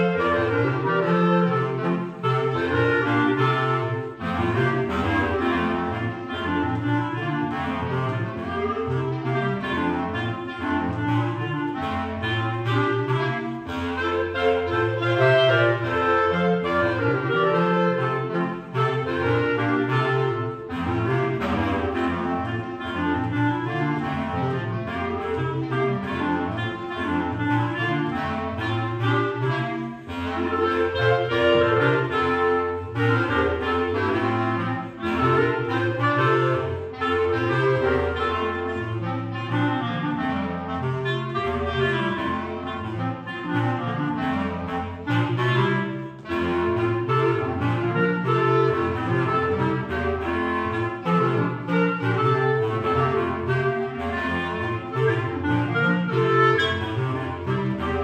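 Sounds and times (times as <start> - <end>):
bass clarinet low notes: 0.0 - 58.0
clarinet quartet playing: 0.0 - 58.0.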